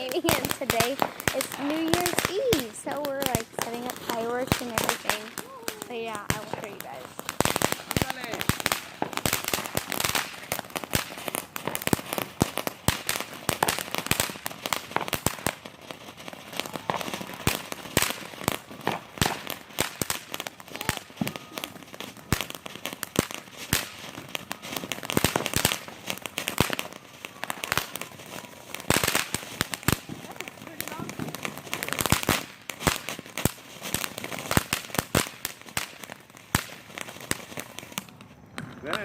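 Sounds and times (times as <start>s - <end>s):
fireworks cracking and popping: 0.0s - 39.0s.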